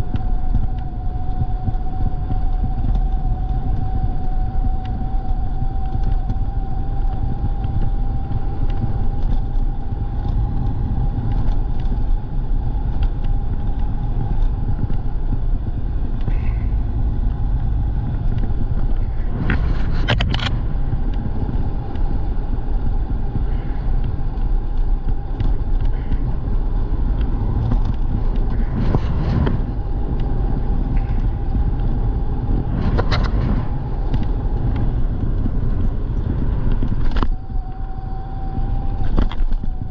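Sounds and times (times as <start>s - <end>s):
electric motor whine: 0.0s - 39.9s
wind on microphone: 0.0s - 39.9s.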